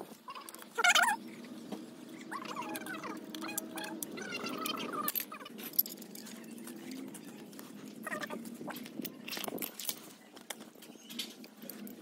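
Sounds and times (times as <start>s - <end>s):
faint steady hum: 0.0s - 12.0s
small metal parts clinking: 2.2s - 12.0s.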